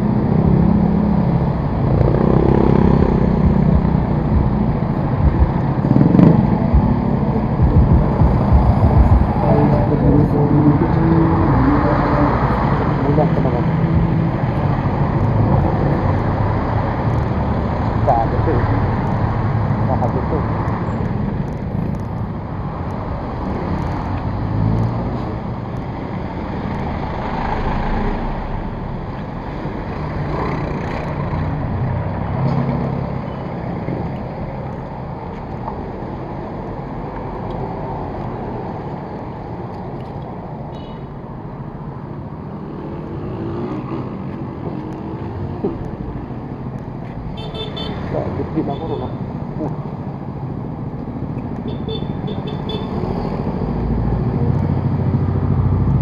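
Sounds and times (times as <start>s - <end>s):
tyre noise on road: 0.0s - 56.0s
vehicle engine rumble: 0.0s - 56.0s.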